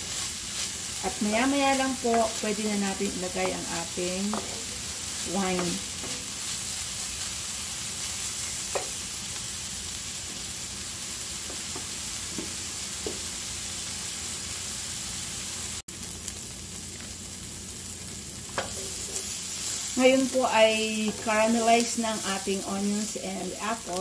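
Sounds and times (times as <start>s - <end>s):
onions sizzling in a skillet: 0.0s - 24.0s.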